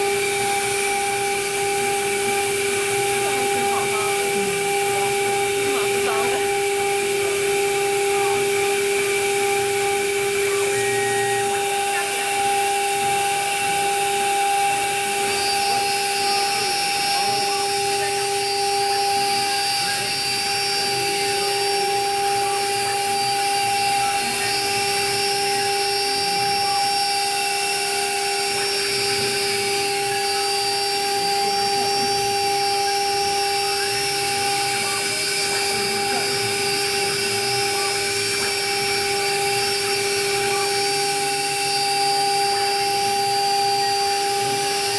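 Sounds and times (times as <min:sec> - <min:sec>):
cnc router spindle whine: 0:00.0 - 0:44.9
high-pitched whine: 0:00.0 - 0:44.9.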